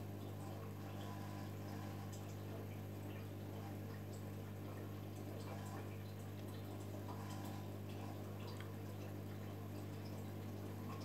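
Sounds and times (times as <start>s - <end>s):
aquarium pump humming: 0.0s - 11.0s
small water sounds: 0.0s - 11.0s.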